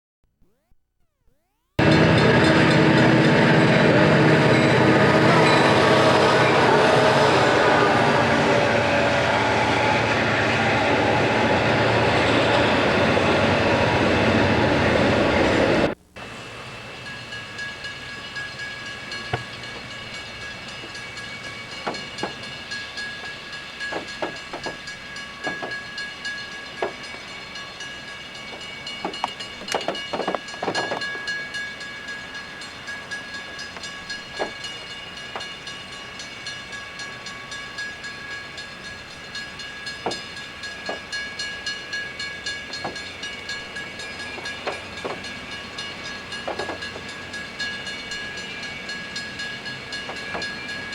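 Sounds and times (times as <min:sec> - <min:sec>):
high whining tones: 0:00.4 - 0:50.9
passing train rushing: 0:01.8 - 0:50.9.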